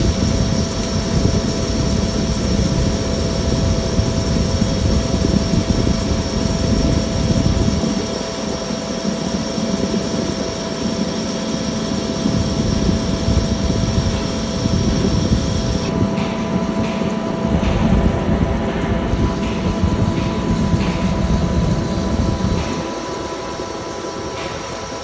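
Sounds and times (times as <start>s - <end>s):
lathe hum with whining tones: 0.0s - 25.0s
low machine rumble: 0.0s - 25.0s.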